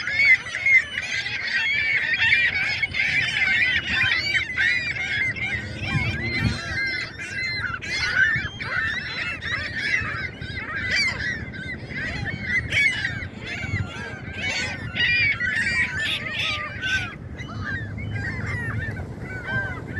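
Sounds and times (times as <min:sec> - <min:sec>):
geese honking: 0:00.0 - 0:19.9.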